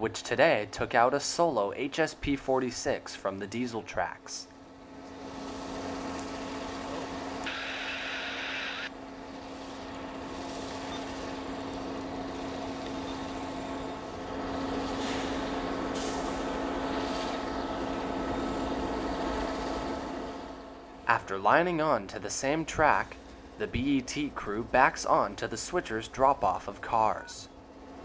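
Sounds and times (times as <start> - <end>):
diesel locomotive engine droning: 0.0 - 28.0.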